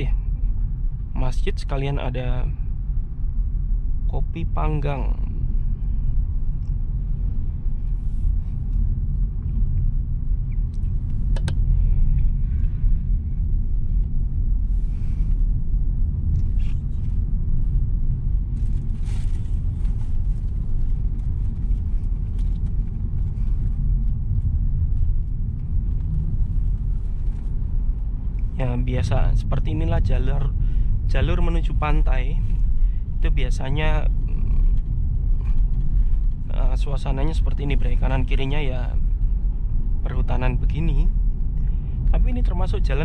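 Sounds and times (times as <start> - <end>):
car interior road rumble: 0.0 - 43.0.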